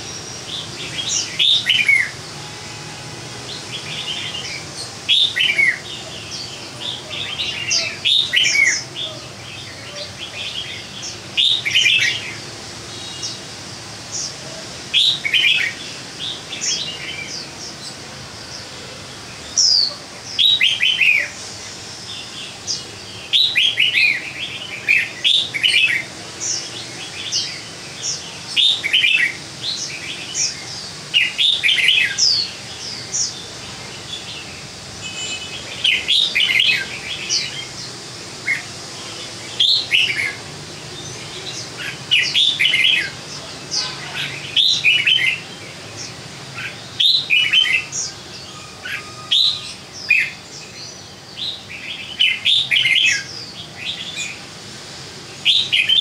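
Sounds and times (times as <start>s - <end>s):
bird chirping song: 0.0s - 13.4s, 22.0s - 54.4s.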